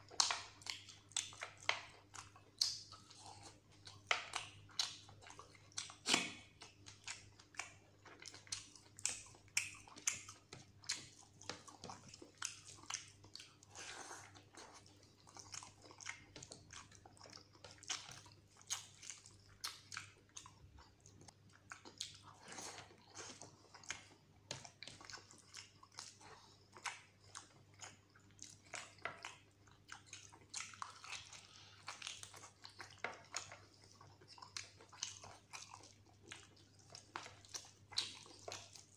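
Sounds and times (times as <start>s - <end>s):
close chewing: 0.0s - 38.9s.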